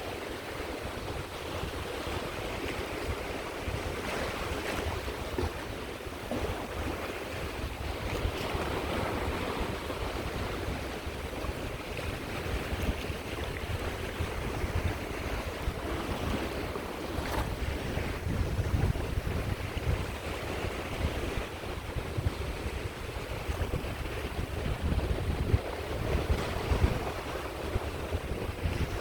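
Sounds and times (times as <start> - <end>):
sea waves washing on shore: 0.0 - 29.0
wind buffeting microphone: 0.0 - 29.0.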